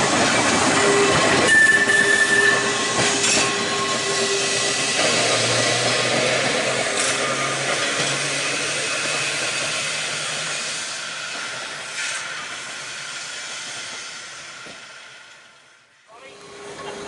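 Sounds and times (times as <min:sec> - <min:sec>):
electric tram humming and rolling: 0:00.0 - 0:17.0.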